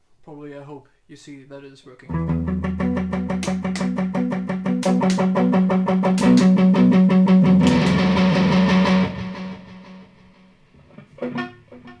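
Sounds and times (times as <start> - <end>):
electric guitar notes and chord: 2.1 - 12.0.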